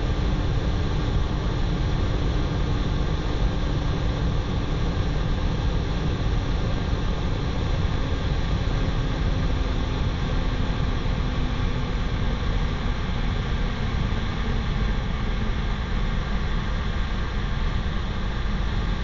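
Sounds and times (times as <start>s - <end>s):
deep roar of jet engines: 0.0s - 19.0s.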